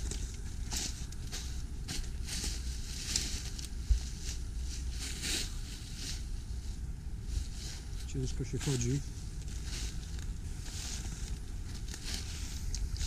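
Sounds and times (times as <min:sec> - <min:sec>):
footsteps crunching through snow: 0:00.0 - 0:13.0
low microphone rumble: 0:00.0 - 0:13.0.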